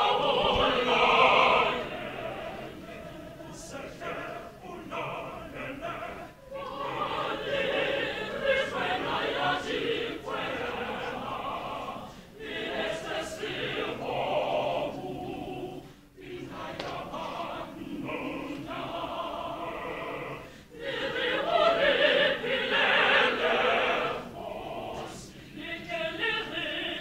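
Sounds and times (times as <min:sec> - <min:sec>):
mixed choir singing: 0:00.0 - 0:27.0.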